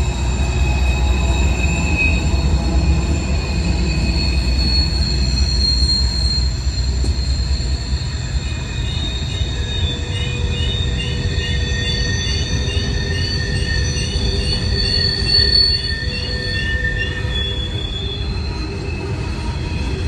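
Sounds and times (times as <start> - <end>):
low rumble of train cars: 0.0 - 20.0
train wheels squealing: 0.0 - 20.0.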